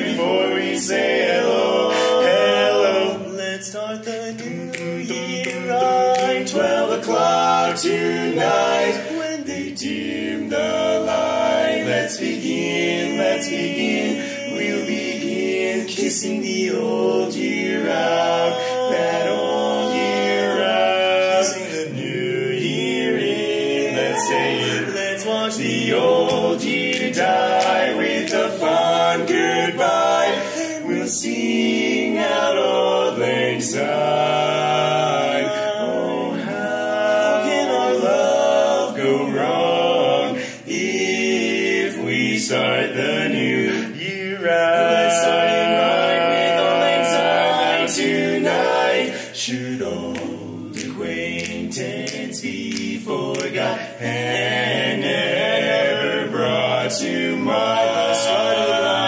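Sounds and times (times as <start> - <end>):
barbershop quartet singing: 0.0 - 59.0.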